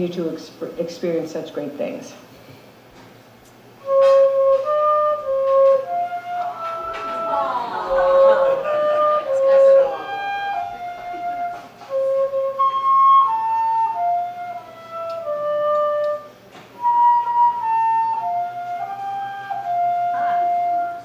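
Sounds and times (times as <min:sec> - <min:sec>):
flute playing slow melody: 0:03.8 - 0:21.0.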